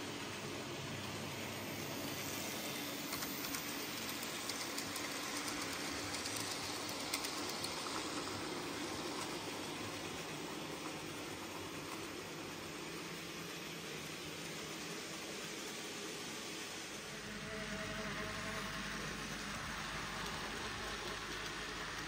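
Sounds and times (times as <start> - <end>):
model train rolling on track: 0.0 - 22.0
room noise hiss: 0.0 - 22.0.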